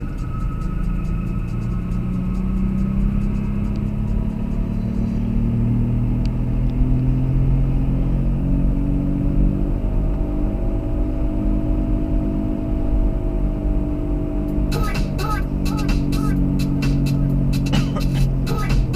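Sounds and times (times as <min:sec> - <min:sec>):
car engine: 0:00.0 - 0:18.9
road rumble: 0:00.0 - 0:18.9.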